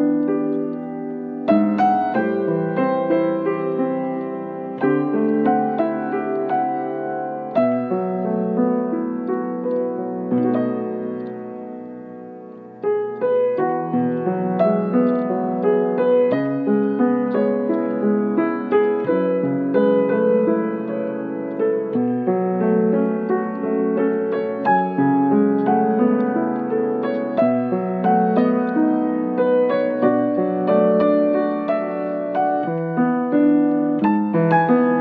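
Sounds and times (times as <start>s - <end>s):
solo piano music: 0.0s - 35.0s.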